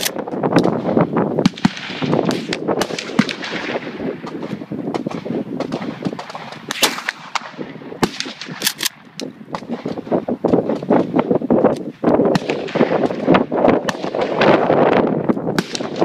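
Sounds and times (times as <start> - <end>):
gunshots echoing: 0.0 - 11.3, 11.9 - 16.0.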